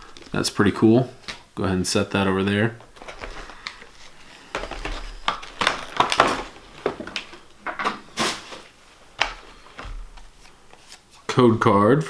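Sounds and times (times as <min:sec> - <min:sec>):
cardboard and paper rustling: 0:00.0 - 0:01.5, 0:02.4 - 0:11.3.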